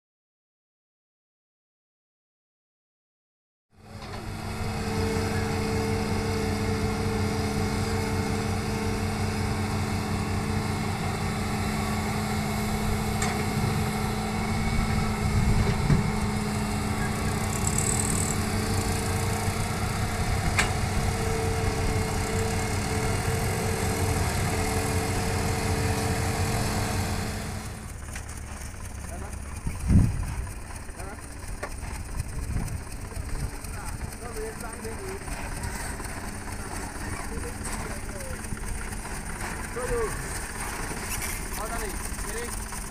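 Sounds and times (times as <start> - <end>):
diesel engines running: 3.7 - 42.9.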